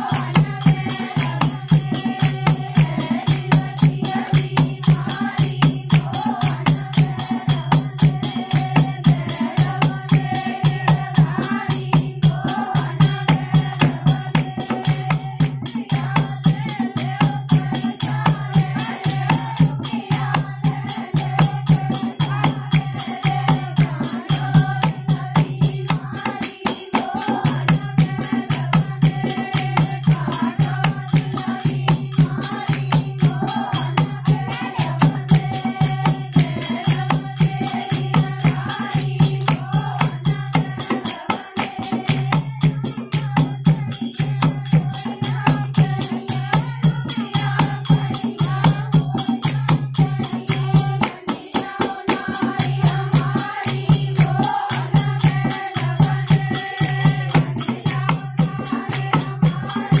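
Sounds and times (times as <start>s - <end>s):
hand drum beat: 0.0s - 60.0s
jingling metal percussion: 0.0s - 60.0s
women singing in unison: 0.0s - 60.0s.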